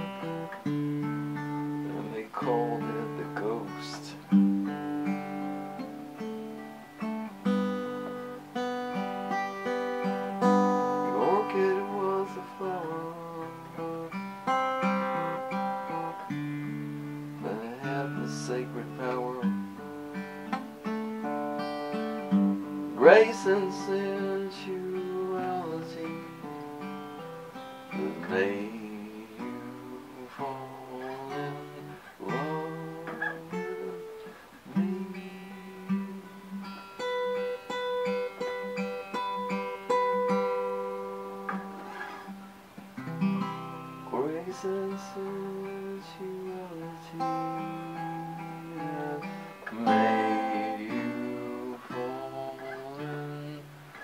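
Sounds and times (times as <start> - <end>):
acoustic guitar picked chords: 0.0 - 54.0.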